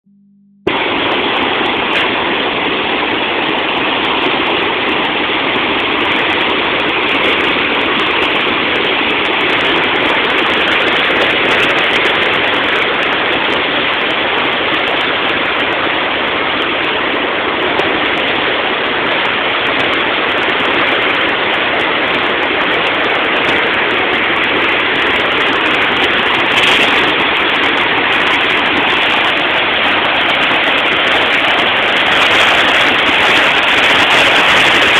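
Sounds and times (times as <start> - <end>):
floodwater rushing roar: 0.6 - 34.9.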